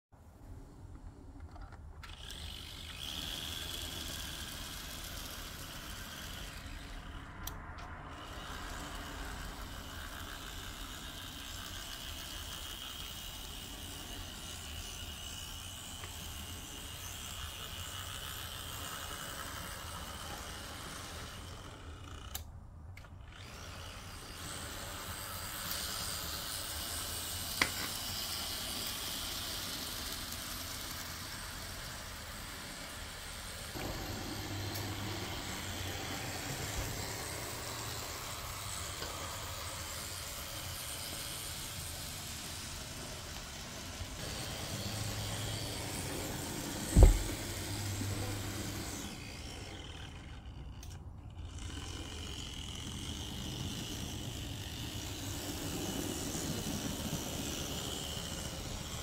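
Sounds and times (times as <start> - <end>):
wheel and track noise: 0.2 - 59.0
model train motor whine: 1.0 - 59.0.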